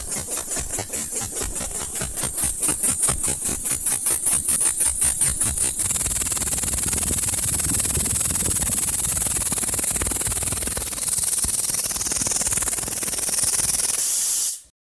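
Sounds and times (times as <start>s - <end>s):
compressed air engine puffing: 0.0s - 14.7s.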